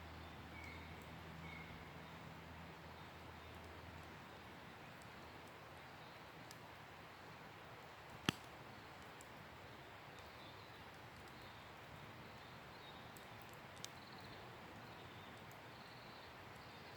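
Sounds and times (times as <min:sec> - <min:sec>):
campfire crackling: 0:00.0 - 0:16.9
fire popping: 0:03.1 - 0:16.8.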